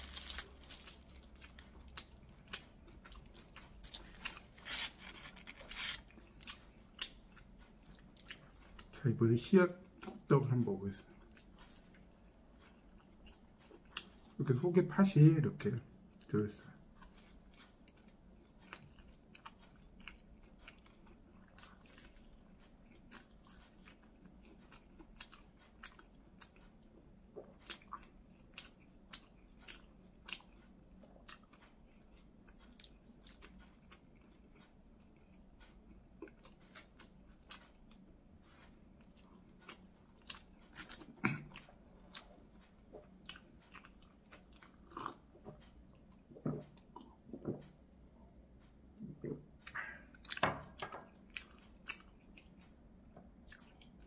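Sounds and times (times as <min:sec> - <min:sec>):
person chewing pastry: 0:00.0 - 0:14.8, 0:15.6 - 0:54.0.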